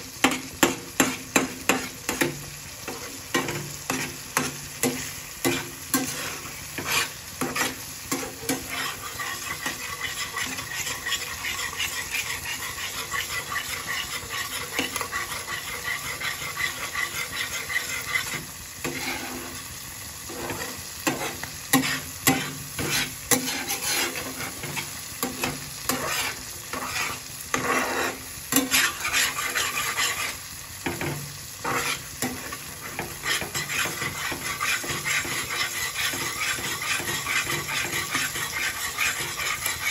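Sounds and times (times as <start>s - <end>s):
gravy sizzling and bubbling: 0.0s - 39.9s
metal spatula scraping a frying pan: 0.2s - 39.9s.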